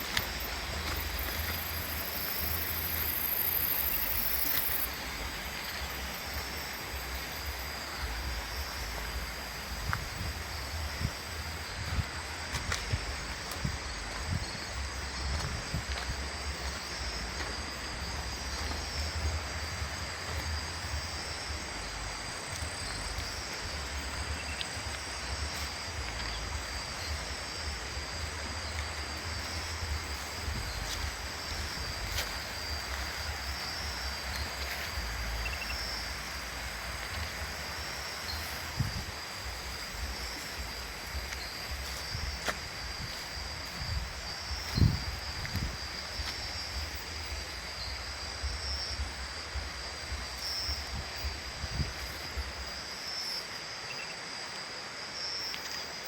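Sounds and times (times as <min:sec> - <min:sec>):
insect drone: 0:00.0 - 0:56.0
wind rumble on microphone: 0:05.0 - 0:53.0.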